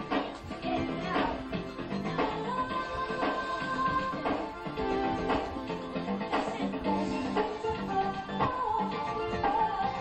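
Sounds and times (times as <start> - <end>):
music with held notes and beat: 0.0 - 10.0.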